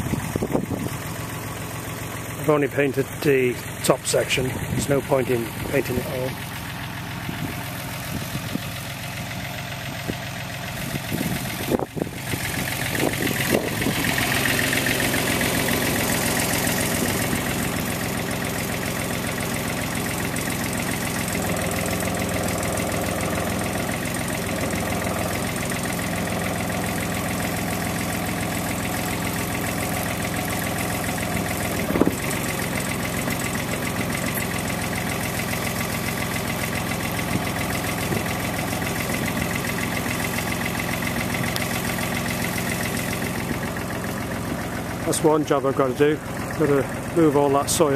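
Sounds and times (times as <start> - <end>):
digger diesel engine running: 0.0 - 47.9.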